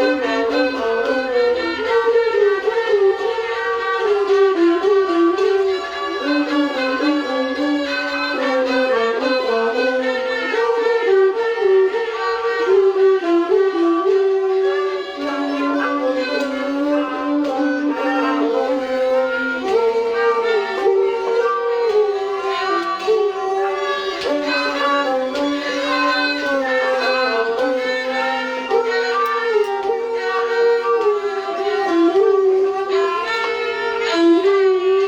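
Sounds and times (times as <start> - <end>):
bowed string melody: 0.0 - 35.0
light percussion: 0.0 - 35.0.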